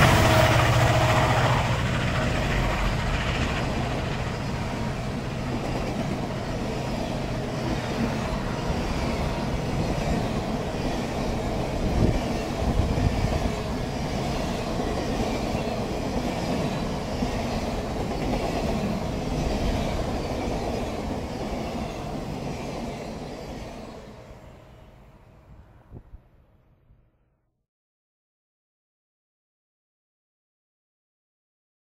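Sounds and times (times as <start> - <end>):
train wheels rumbling on rails: 0.0 - 25.8.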